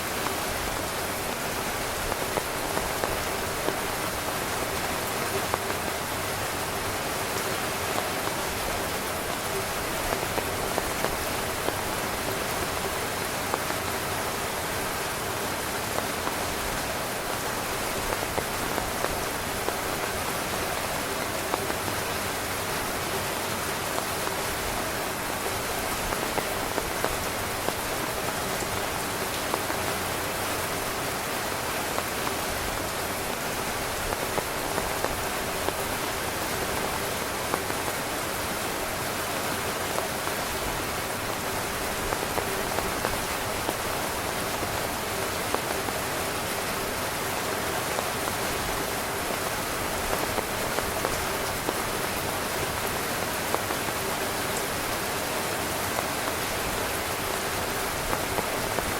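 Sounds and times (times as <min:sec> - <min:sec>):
rain on a tent: 0:00.0 - 0:58.9.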